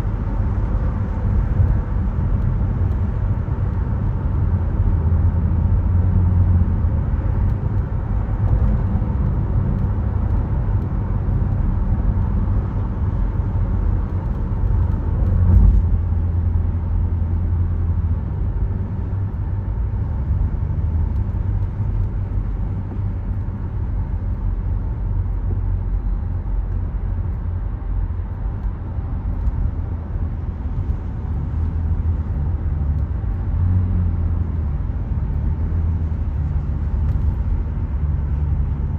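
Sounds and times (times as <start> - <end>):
car engine drone: 0.0 - 38.9
tyre and road noise: 0.0 - 38.9.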